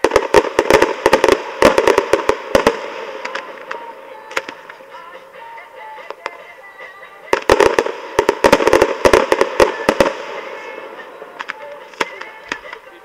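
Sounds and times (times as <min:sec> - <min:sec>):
fireworks cracking: 0:00.0 - 0:13.0
fireworks crackle: 0:00.0 - 0:13.0.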